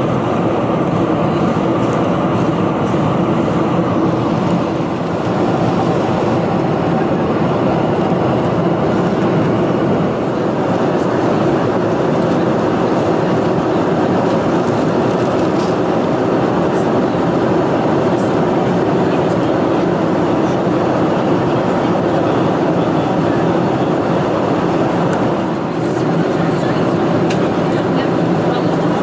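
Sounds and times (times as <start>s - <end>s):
airplane cabin engine and airflow noise: 0.0s - 29.0s.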